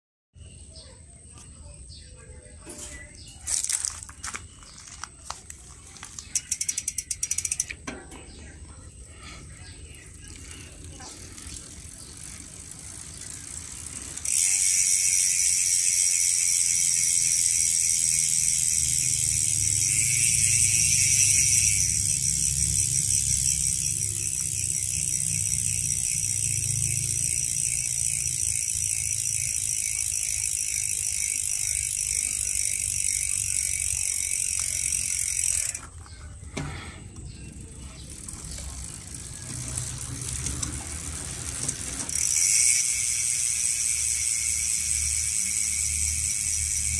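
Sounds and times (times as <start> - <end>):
freewheeling hub buzzing: 2.6 - 46.9.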